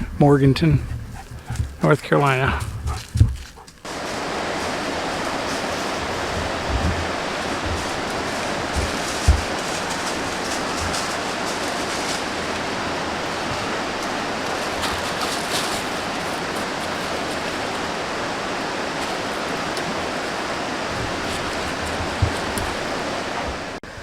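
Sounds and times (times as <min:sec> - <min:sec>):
creek water over rocks: 0:00.0 - 0:24.0.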